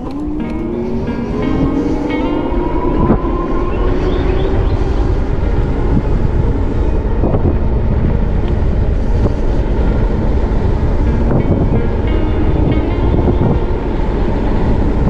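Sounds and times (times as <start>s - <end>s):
tyre and road noise: 0.0s - 15.0s
wind rumbling on microphone: 0.0s - 15.0s.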